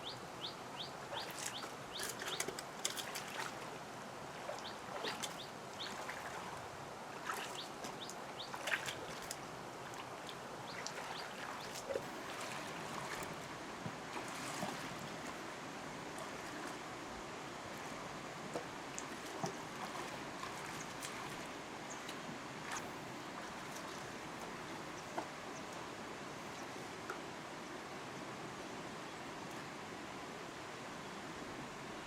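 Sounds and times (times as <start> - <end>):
water trickling and splashing: 1.1 - 27.3.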